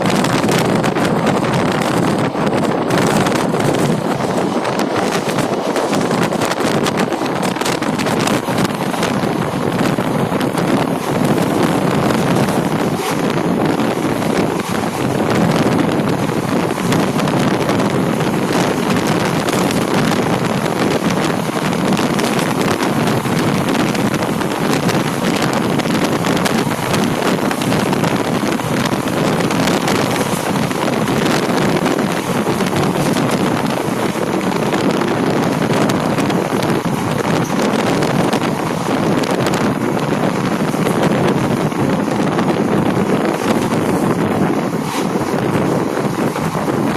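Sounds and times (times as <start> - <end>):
moving train rushing: 0.0 - 46.9
wind buffeting microphone: 0.0 - 46.9.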